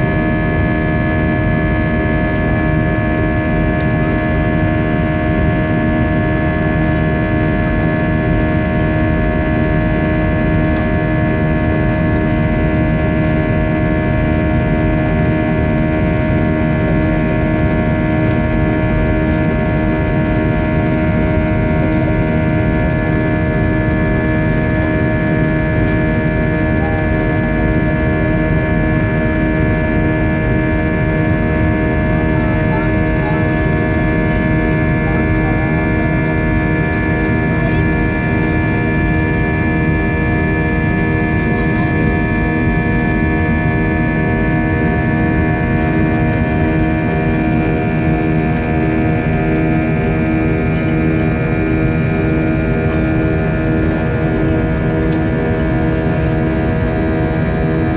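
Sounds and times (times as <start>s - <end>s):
jet cabin rumble: 0.0s - 57.9s
steady whining tones: 0.0s - 57.9s.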